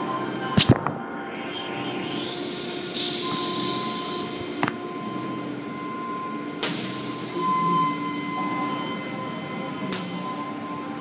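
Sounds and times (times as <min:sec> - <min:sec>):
car wash machinery humming: 0:00.0 - 0:11.0.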